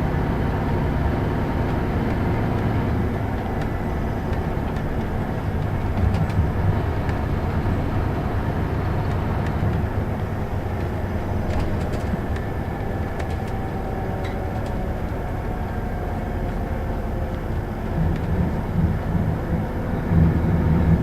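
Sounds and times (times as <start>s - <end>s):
bus engine rumble: 0.0s - 21.0s
road noise: 0.0s - 21.0s.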